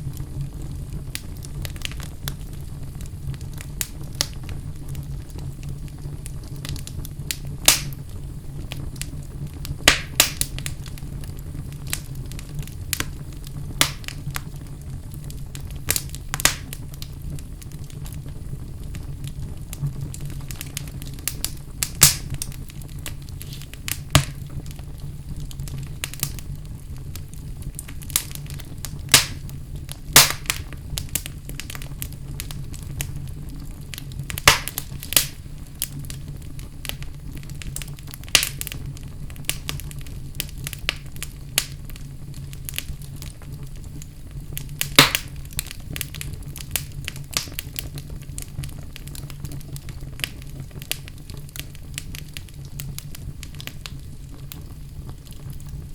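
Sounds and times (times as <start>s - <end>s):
burning logs crackling and popping: 0.0s - 55.9s
wood fire rumbling: 0.0s - 55.9s.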